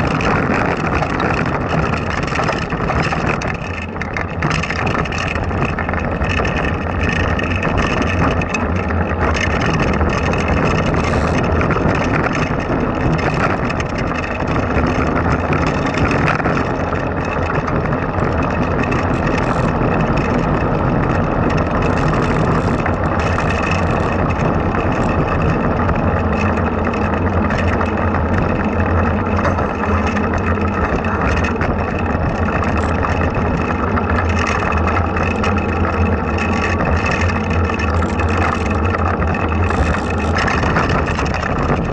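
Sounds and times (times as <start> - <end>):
frame rattling: 0.0 - 41.9
wheels rumbling on asphalt: 0.0 - 41.9
wind rushing over microphone: 0.0 - 41.9.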